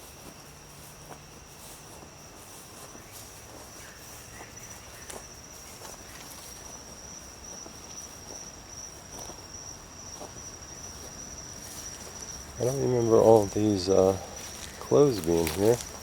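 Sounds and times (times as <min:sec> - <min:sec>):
crickets trilling: 0:00.0 - 0:16.0
footsteps on ground: 0:00.0 - 0:16.0.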